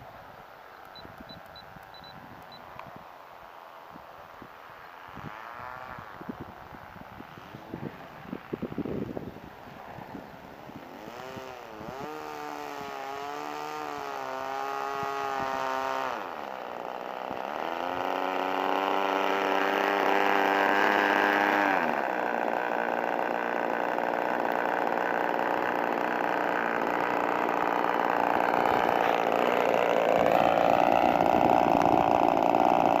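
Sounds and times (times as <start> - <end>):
model airplane engine revving: 4.4 - 33.0.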